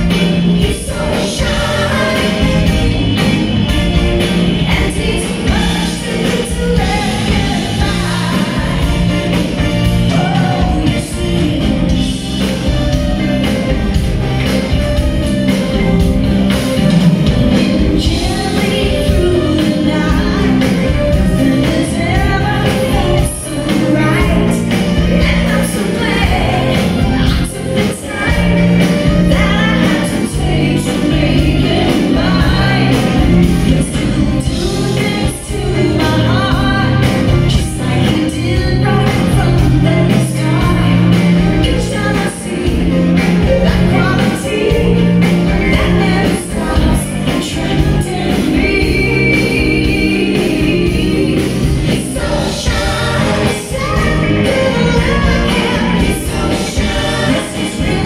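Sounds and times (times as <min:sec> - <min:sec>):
woman singing: 0:00.0 - 0:13.1, 0:17.5 - 0:58.0
live pop-rock band: 0:00.0 - 0:58.0.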